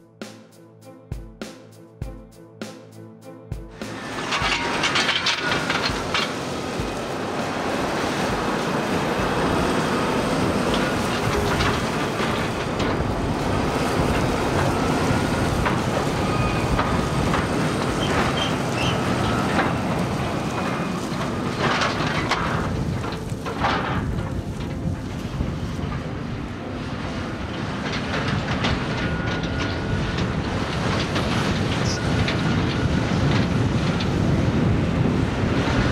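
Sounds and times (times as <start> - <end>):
tractor engine running: 3.5 - 35.9
trailer rattling: 3.5 - 35.9
metal clanking: 3.8 - 34.4.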